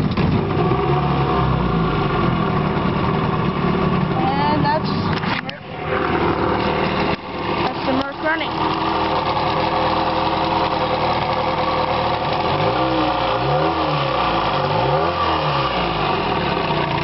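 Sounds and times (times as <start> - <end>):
two-stroke outboard motor running: 0.0 - 17.0.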